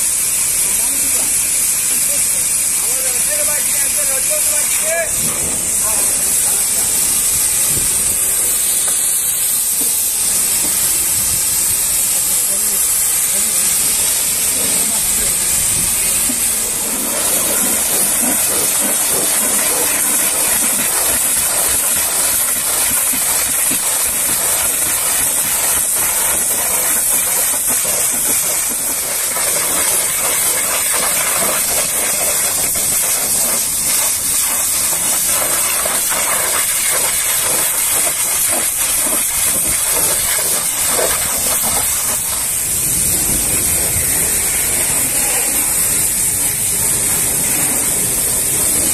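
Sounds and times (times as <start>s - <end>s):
pressure washer spraying: 0.0s - 48.9s
water spattering off metal: 0.0s - 48.9s.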